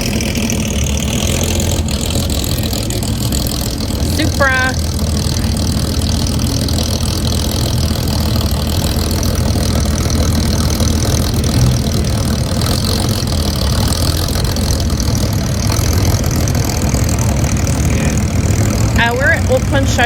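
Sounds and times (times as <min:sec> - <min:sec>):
car engines idling: 0:00.0 - 0:20.0.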